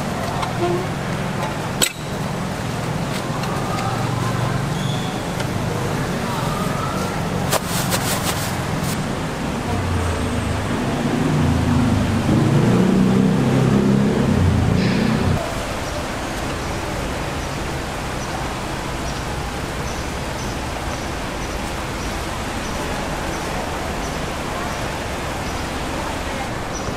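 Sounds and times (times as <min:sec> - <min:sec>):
background traffic noise: 0:00.0 - 0:26.9
low engine rumble: 0:00.0 - 0:26.9.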